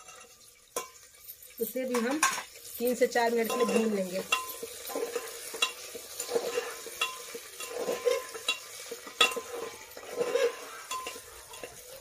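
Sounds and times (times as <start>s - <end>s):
faint sizzle of frying: 0.0s - 12.0s
spoon clinking and scraping pot: 0.0s - 12.0s.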